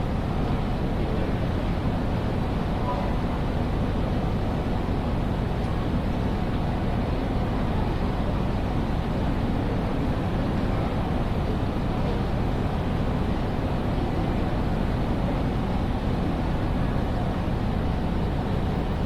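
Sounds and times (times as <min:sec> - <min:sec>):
railway station ambience: 0:00.0 - 0:19.0.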